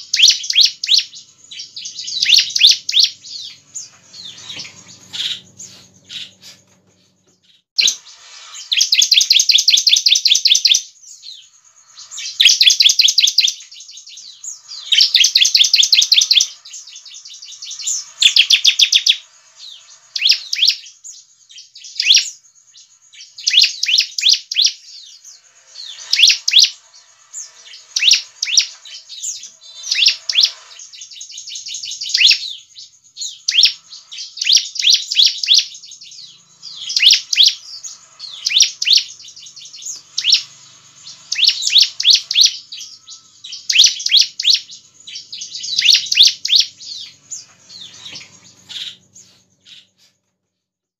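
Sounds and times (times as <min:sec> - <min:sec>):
bird singing rattling trills: 0:00.0 - 0:50.0.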